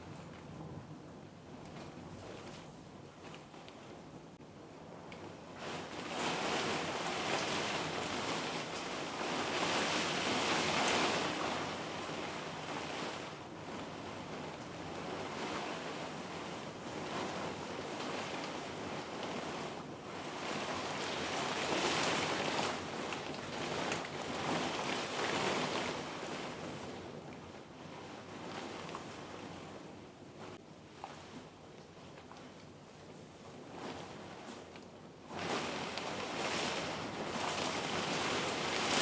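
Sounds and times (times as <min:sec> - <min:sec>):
heavy wind-driven rain: 0:00.0 - 0:30.6, 0:32.4 - 0:39.0.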